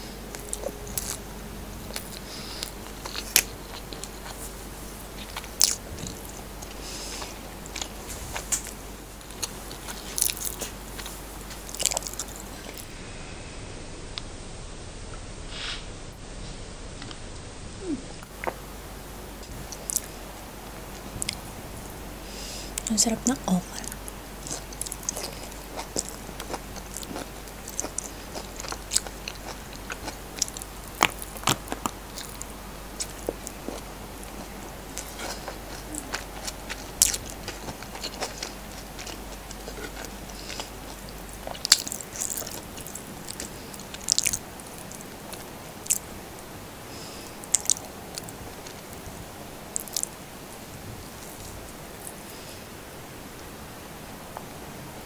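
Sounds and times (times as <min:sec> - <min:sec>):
chewing food with crunches: 0:00.0 - 0:13.0, 0:17.9 - 0:52.7.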